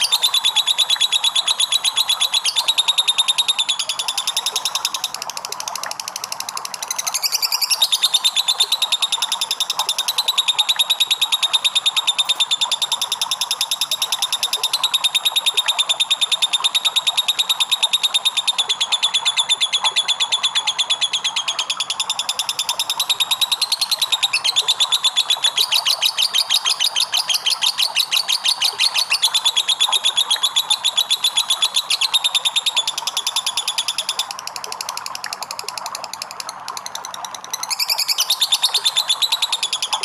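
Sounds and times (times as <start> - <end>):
lovebird chattering trill: 0.0 - 5.2, 6.8 - 34.3, 36.5 - 40.0.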